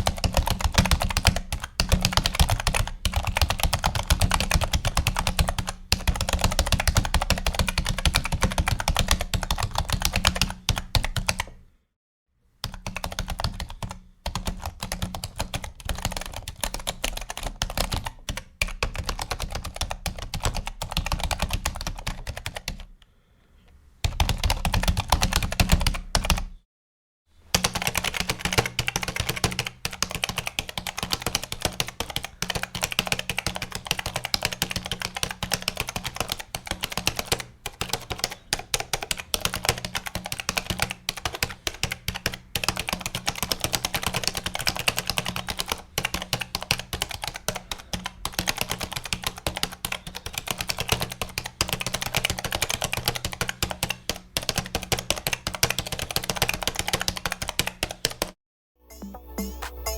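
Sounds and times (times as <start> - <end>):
keyboard typing: 0.0 - 11.6, 12.6 - 22.9, 24.0 - 26.5, 27.5 - 58.4.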